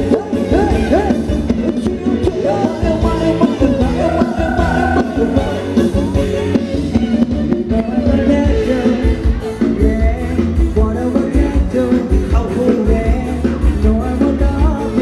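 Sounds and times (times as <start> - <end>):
live band dance music: 0.0 - 15.0
person singing: 0.0 - 15.0.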